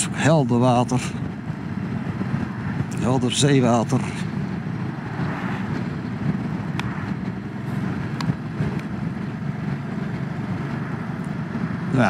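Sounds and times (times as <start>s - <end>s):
motorcycle engine drone: 0.0s - 12.0s
riding wind: 0.0s - 12.0s.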